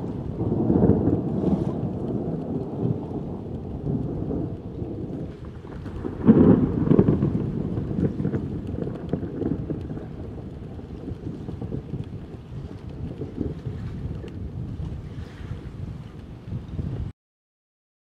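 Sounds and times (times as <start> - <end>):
thunder rumbling: 0.0 - 17.1.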